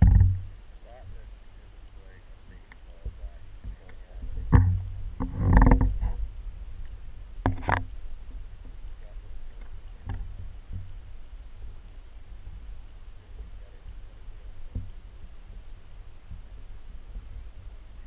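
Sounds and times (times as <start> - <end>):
microphone handling rumble: 0.0 - 18.0.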